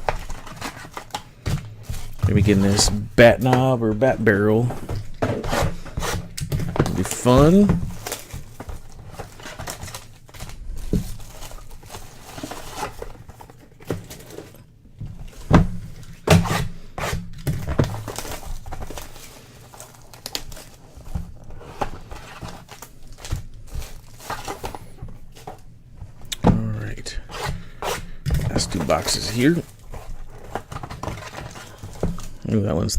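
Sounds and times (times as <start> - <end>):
packaging rustling and crinkling: 0.0 - 26.3, 28.3 - 32.5.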